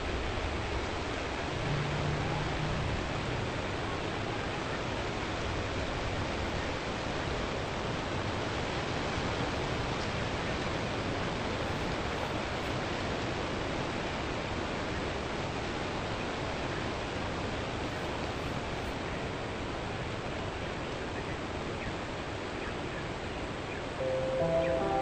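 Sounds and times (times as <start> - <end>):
steady static hiss: 0.0 - 25.0.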